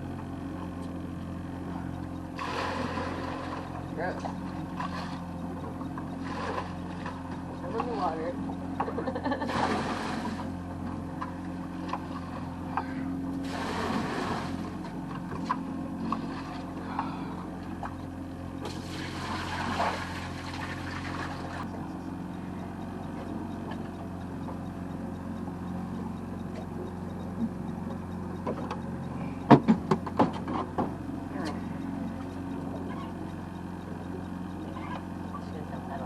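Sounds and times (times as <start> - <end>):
boat motor humming: 0.0 - 36.0.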